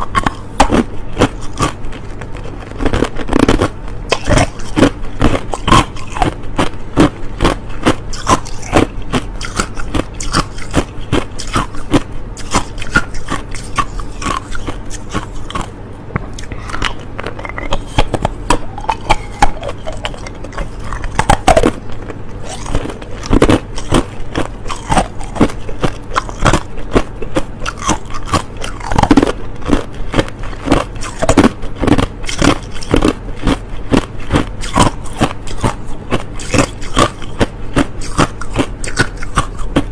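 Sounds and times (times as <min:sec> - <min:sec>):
person crunching ice: 0:00.0 - 0:15.7, 0:16.4 - 0:39.9.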